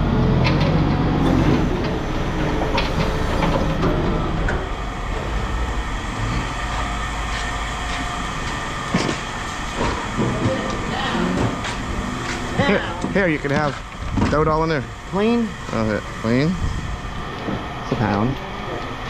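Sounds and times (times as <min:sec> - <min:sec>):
heavy engine running: 0:00.0 - 0:19.0.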